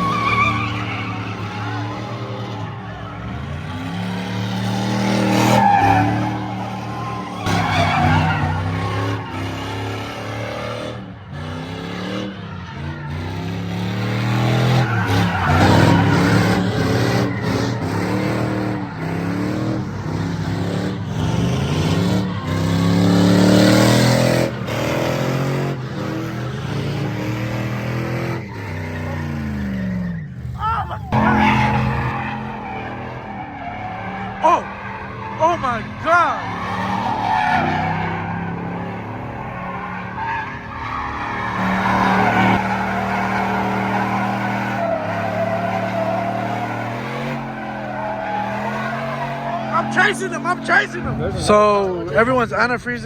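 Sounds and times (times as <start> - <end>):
tires squealing on pavement: 0.0 - 53.0
truck engine revving: 0.0 - 53.0.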